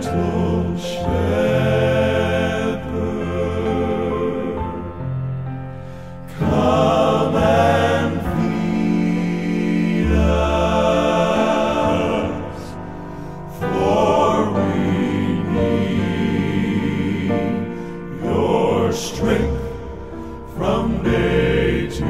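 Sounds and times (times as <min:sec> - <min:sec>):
men singing in close harmony: 0:00.0 - 0:05.1, 0:06.3 - 0:22.0.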